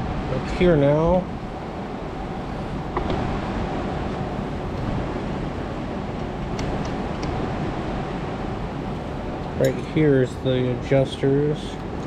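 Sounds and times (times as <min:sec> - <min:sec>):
machine fan humming: 0:00.0 - 0:12.0.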